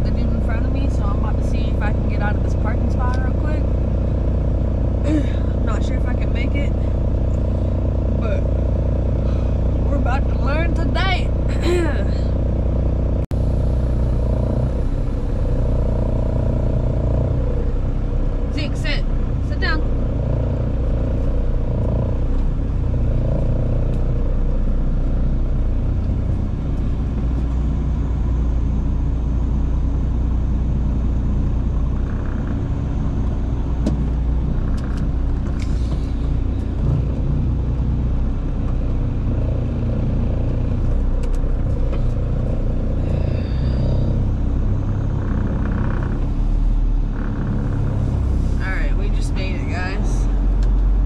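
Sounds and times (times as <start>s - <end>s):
diesel truck engine running: 0.0s - 51.0s.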